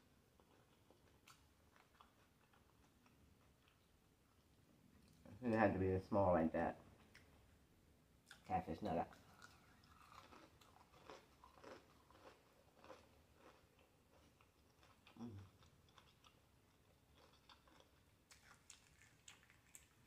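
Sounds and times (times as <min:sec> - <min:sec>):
chewing with soft crunches: 0:00.3 - 0:05.7, 0:08.2 - 0:20.0.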